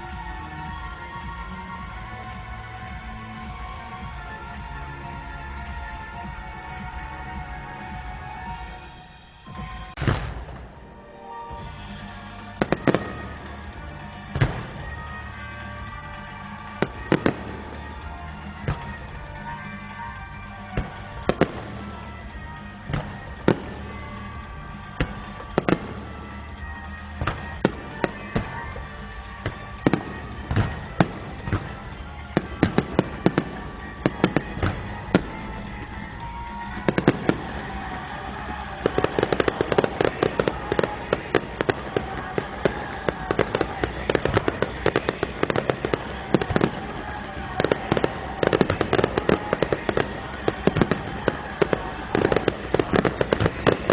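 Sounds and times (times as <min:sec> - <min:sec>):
fireworks bangs and crackling: 0:00.0 - 0:53.9
music: 0:00.0 - 0:53.9.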